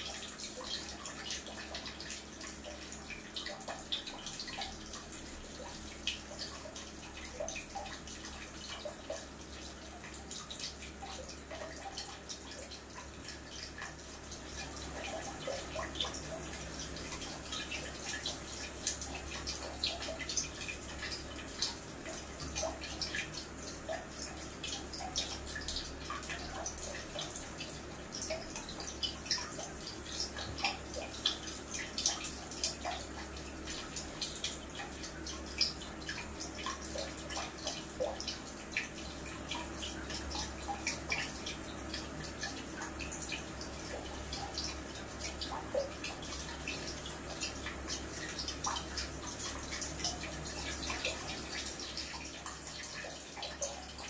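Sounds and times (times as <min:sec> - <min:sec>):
drips and splashes: 0:00.0 - 0:54.0
water trickling from hose: 0:00.0 - 0:54.0.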